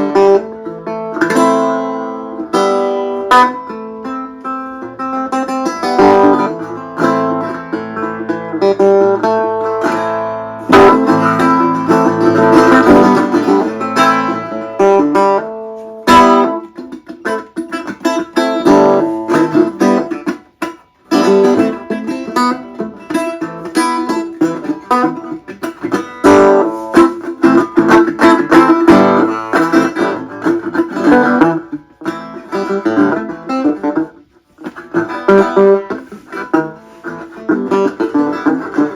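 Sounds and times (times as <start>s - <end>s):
resonator guitar playing: 0.0s - 38.9s.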